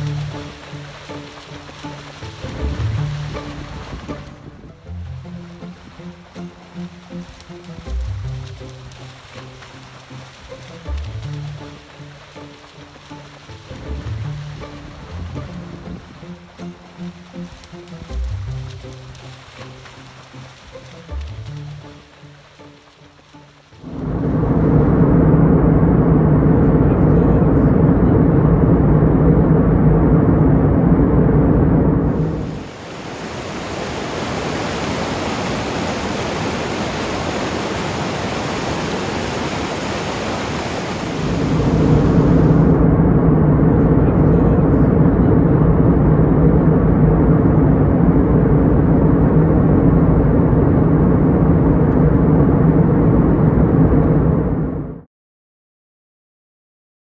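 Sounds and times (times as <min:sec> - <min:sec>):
boat engine hum: 0:00.0 - 0:55.1
rushing water and air: 0:00.0 - 0:55.1.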